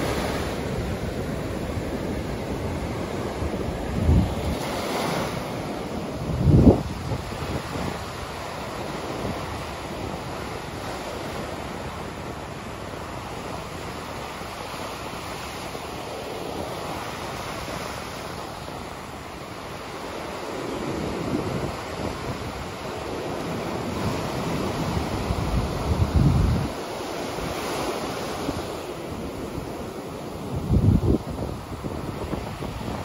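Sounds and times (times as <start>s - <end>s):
wind buffeting microphone: 0.0s - 15.6s, 16.4s - 33.0s
waves breaking on shore: 0.0s - 33.0s.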